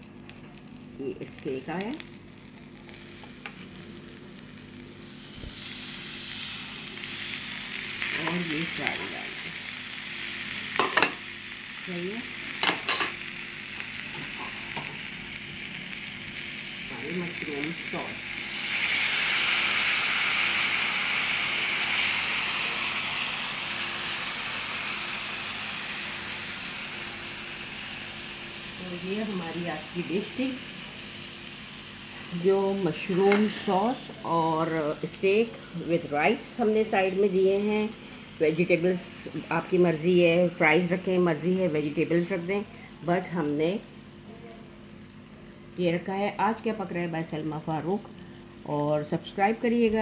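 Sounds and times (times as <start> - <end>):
food sizzling on a hot platter: 0.0 - 49.5.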